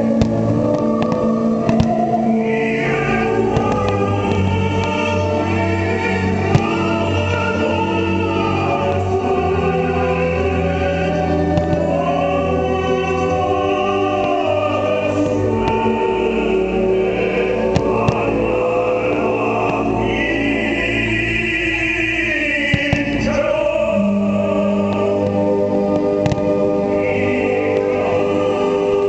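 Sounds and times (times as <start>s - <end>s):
choir singing operatically: 0.0s - 29.0s
orchestral chords: 0.0s - 29.0s.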